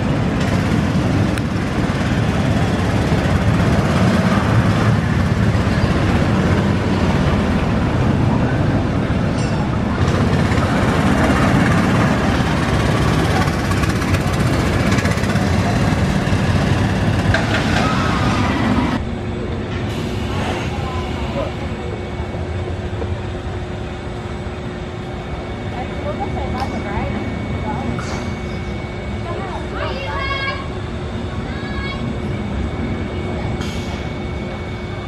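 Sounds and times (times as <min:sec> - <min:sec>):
roller coaster train rumbling: 0:00.0 - 0:35.0.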